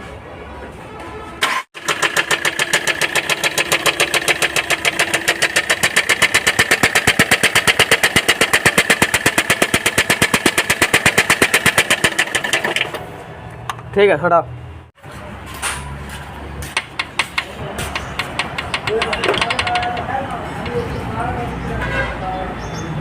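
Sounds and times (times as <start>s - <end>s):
diesel engine cranking: 1.4s - 14.1s, 15.4s - 21.5s.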